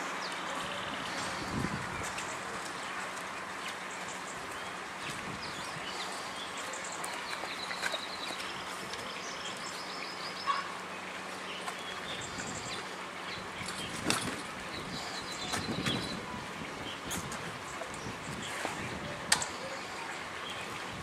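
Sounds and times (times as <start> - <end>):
birds chirping: 0.0 - 21.0
steady outdoor hiss: 0.0 - 21.0.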